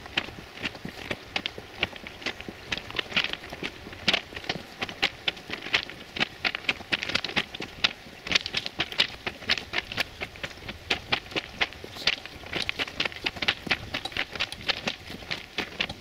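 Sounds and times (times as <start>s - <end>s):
footsteps crunching on gravel: 0.0s - 16.0s.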